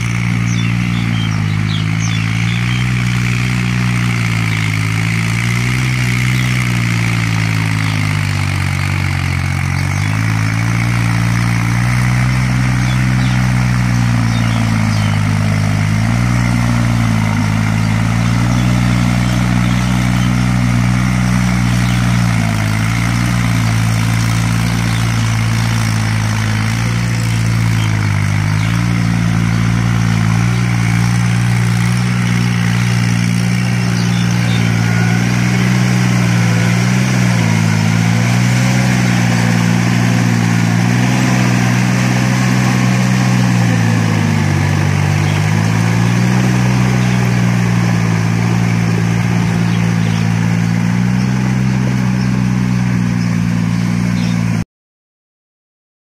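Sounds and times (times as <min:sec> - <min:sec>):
tractor diesel engine under load: 0:00.0 - 0:54.6.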